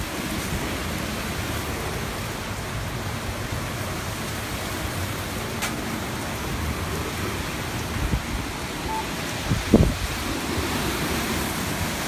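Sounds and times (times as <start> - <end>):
driving rain: 0.0 - 12.0
wind: 0.0 - 12.0.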